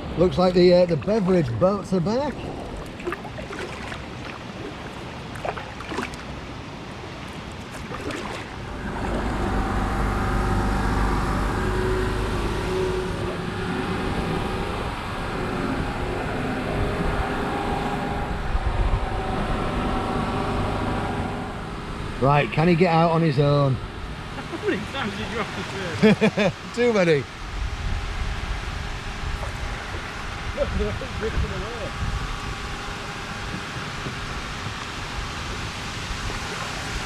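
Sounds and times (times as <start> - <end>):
boat engine running: 0.0 - 37.0.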